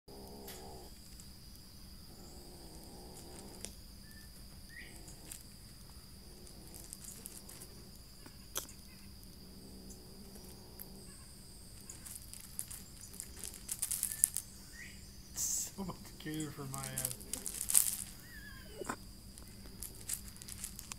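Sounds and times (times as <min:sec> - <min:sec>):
insects droning: 0:00.1 - 0:20.9.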